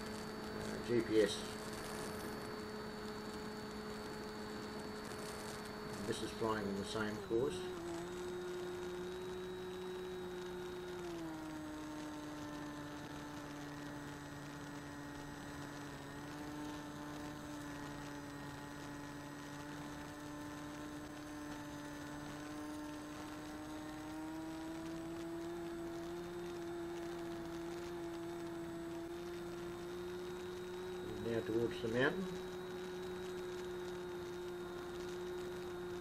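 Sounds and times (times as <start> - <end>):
model plane motor whining: 0.0 - 36.0.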